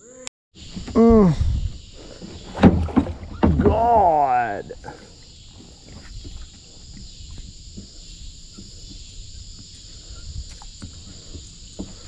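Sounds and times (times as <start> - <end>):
insect chorus: 0.1 - 12.0.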